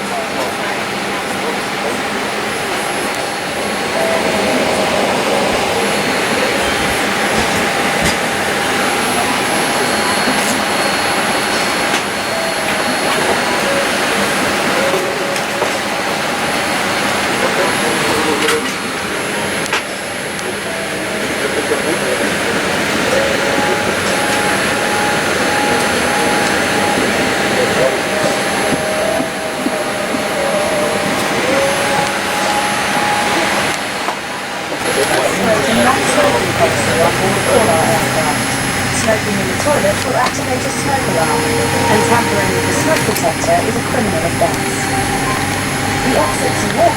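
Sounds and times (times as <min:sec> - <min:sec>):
airplane cabin rushing noise: 0:00.0 - 0:46.9
faint steady hum: 0:00.1 - 0:46.9
faint thin whines: 0:01.4 - 0:46.9.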